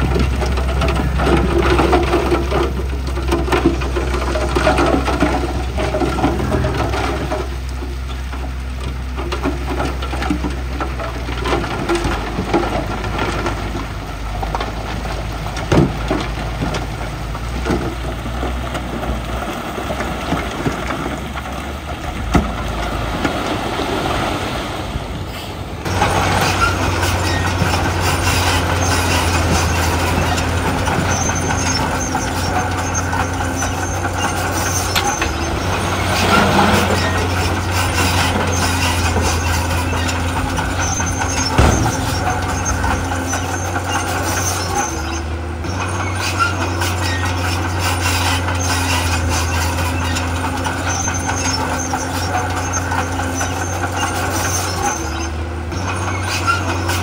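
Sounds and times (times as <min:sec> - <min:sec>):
clanks and knocks of rock: 0:00.0 - 0:24.2, 0:25.8 - 0:57.0
heavy diesel machinery running: 0:00.0 - 0:57.0.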